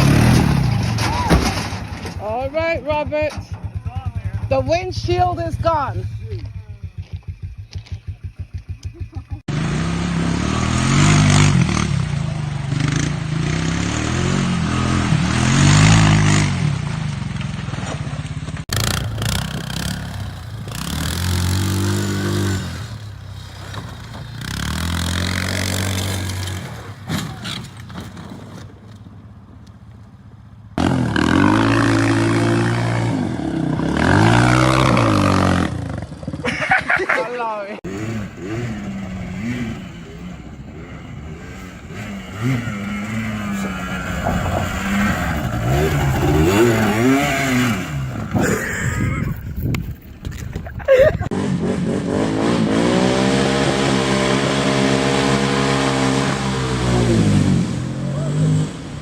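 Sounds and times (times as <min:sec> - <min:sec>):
engine putter at low revs: 0:00.0 - 0:29.1, 0:37.8 - 0:59.0
off-road bike engines revving: 0:00.0 - 0:59.0.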